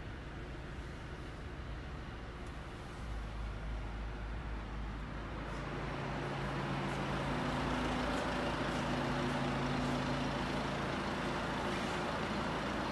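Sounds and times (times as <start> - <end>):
vehicle engine running: 0.0 - 12.9.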